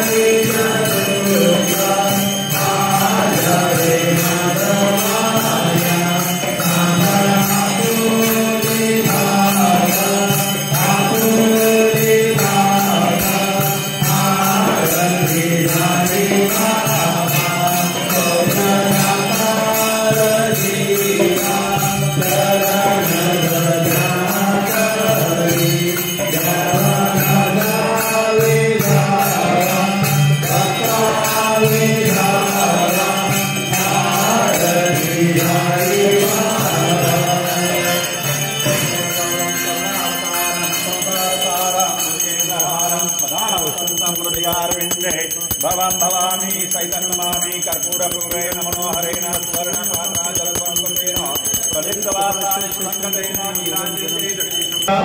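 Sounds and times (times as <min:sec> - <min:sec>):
congregation singing into microphone: 0:00.0 - 0:47.8
bells ringing: 0:00.0 - 0:55.0
dholak drum: 0:00.0 - 0:55.0.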